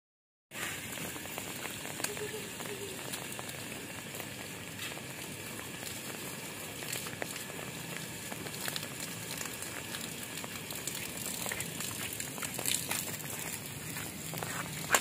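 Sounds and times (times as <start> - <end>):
rain pattering on hard surfaces: 0.5 - 15.0.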